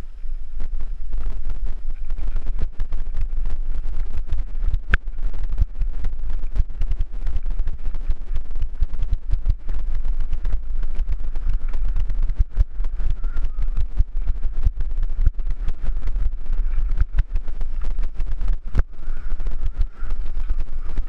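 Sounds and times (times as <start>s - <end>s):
wind rumbling on microphone: 0.0s - 21.0s
bike tyres rattling over rocks: 0.3s - 21.0s.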